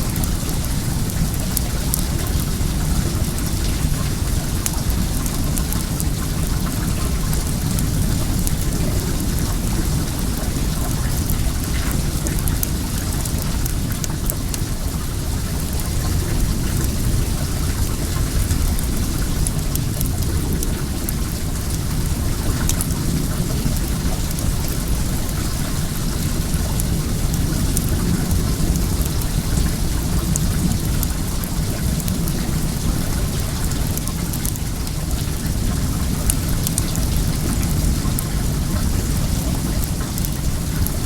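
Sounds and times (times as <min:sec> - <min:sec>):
wood bonfire crackling: 0:00.0 - 0:41.0.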